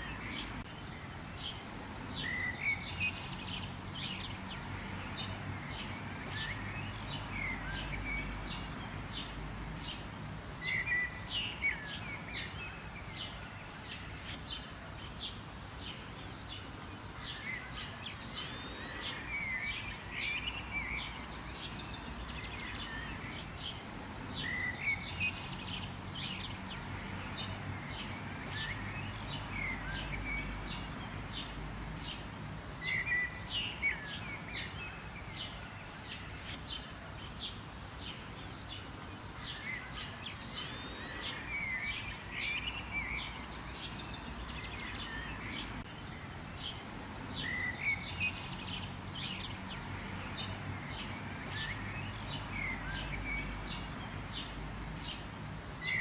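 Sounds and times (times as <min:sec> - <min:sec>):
birds chirping and twittering: 0:00.0 - 0:56.0
faint steady background hiss: 0:00.0 - 0:56.0.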